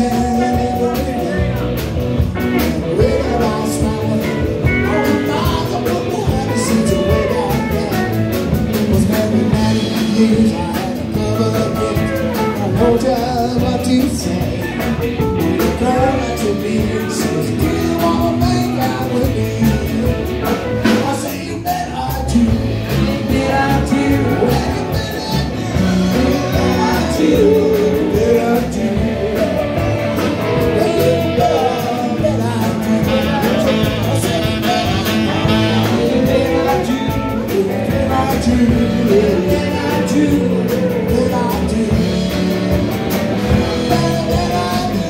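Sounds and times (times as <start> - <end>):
drums: 0.0 - 45.0
electric guitars: 0.0 - 45.0
person singing: 0.0 - 45.0.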